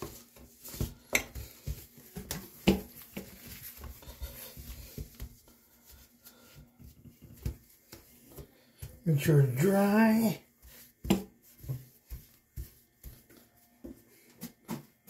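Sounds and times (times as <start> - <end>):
cloth wiping a sink: 0.0 - 15.0.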